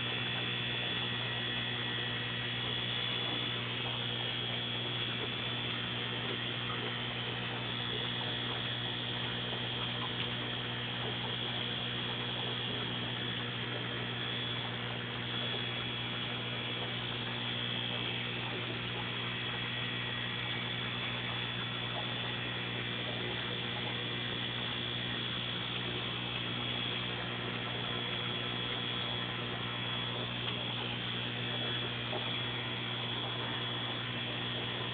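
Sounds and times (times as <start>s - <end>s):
aquarium equipment humming: 0.0s - 34.9s
thin high whine: 0.0s - 34.9s.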